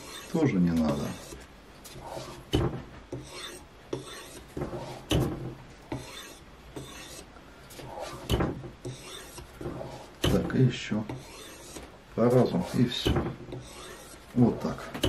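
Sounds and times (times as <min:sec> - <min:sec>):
whetstone rasping on steel edge: 0:00.0 - 0:01.4, 0:02.1 - 0:05.3, 0:05.9 - 0:14.2.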